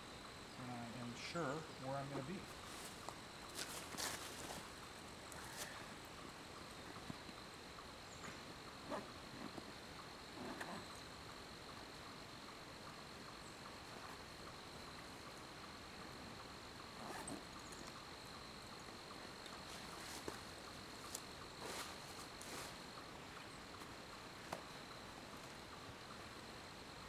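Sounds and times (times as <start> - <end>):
high-pitched insect trill: 0.0 - 27.0.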